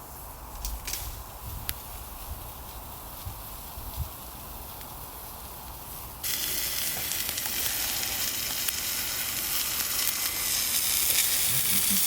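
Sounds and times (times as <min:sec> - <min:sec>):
food sizzling in a frying pan: 0:01.0 - 0:12.0.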